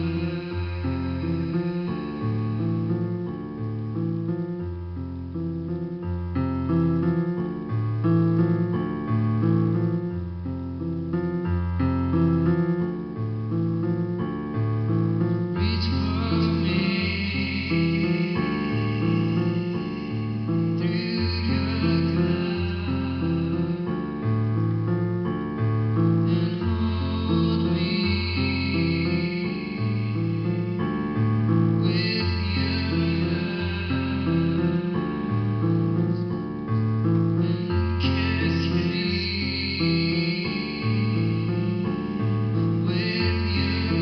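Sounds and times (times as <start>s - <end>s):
slow keyboard instrumental music: 0.0s - 44.0s.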